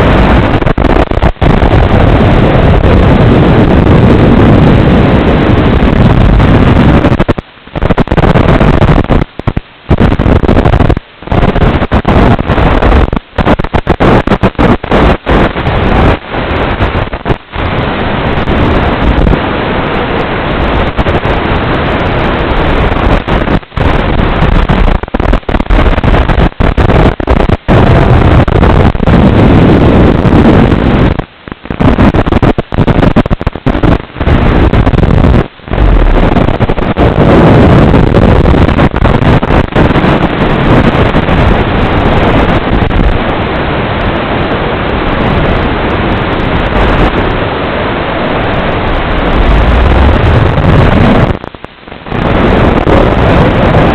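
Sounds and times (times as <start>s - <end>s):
drone motor and wind rush: 0.0s - 53.9s.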